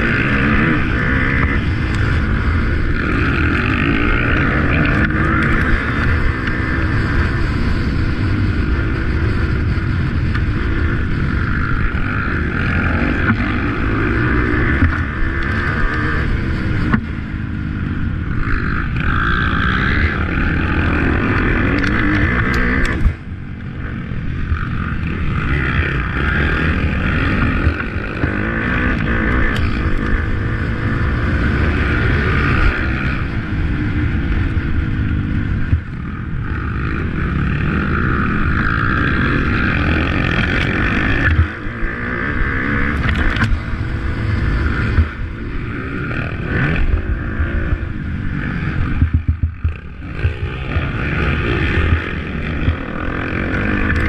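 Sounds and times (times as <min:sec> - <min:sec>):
motocross bike engines revving: 0:00.0 - 0:54.0.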